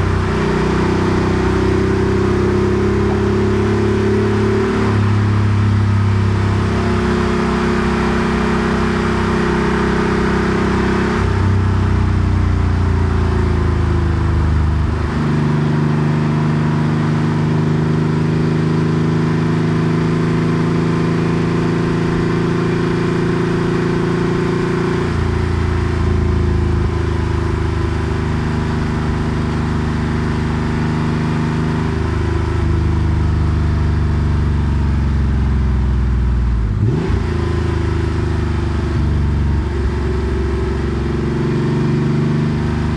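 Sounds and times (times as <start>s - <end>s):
engine revving: 0.0s - 11.8s, 12.8s - 34.6s, 36.6s - 42.9s
car engine running: 0.0s - 42.9s.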